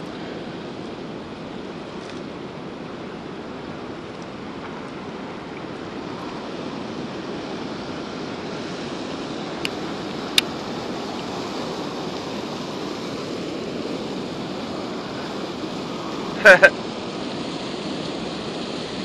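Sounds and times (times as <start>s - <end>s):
water pouring over a spillway: 1.8s - 19.0s.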